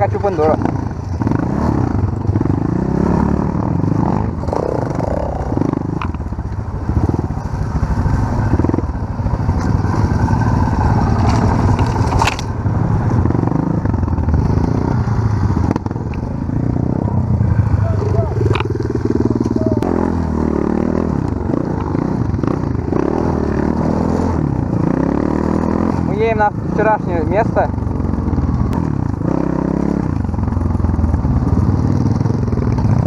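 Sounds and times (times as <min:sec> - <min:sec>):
motorcycle engines running: 0:00.0 - 0:33.0.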